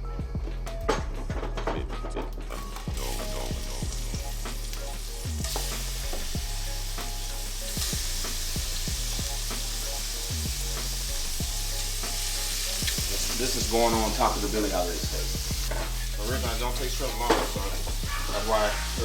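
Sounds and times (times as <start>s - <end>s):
background music with steady beat: 0.0s - 19.0s
food sizzling in a pan: 2.5s - 19.0s.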